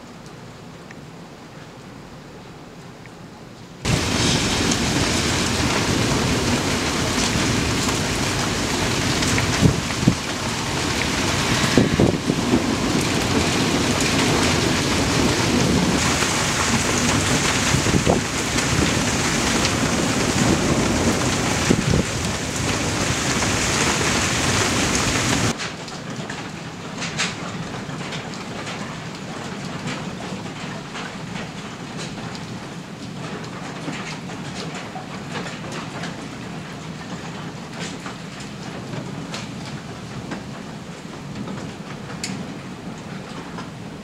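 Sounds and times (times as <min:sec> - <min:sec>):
heavy rain pouring: 0:03.8 - 0:44.0
sharp rain hits: 0:03.8 - 0:44.0.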